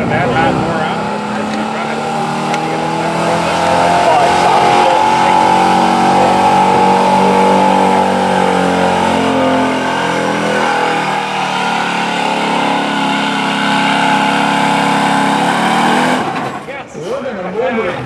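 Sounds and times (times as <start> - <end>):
truck engine running at high revs: 0.0 - 16.7.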